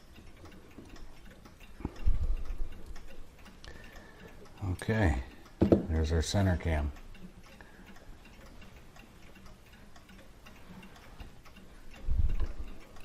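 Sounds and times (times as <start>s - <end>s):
mechanical clock ticking: 0.0s - 13.0s.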